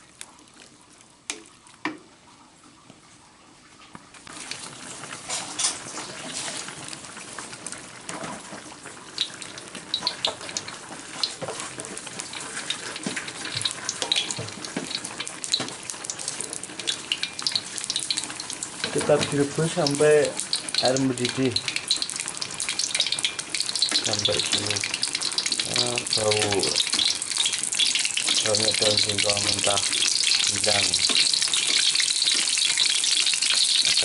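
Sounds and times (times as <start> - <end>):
broth boiling and bubbling: 0.0 - 34.0.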